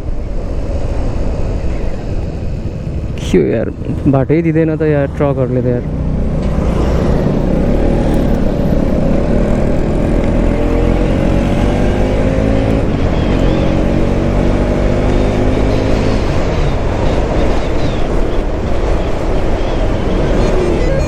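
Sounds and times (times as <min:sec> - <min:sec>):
motorcycle engine accelerating: 0:01.0 - 0:21.0.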